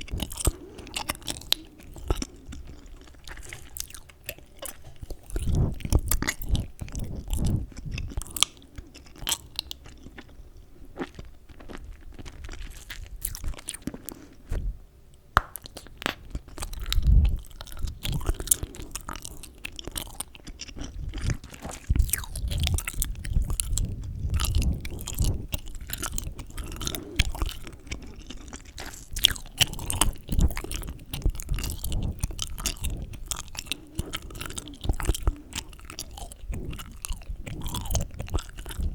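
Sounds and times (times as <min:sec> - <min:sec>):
gum chewing mouth clicks: 0:00.0 - 0:10.4, 0:11.0 - 0:14.6, 0:15.4 - 0:38.9.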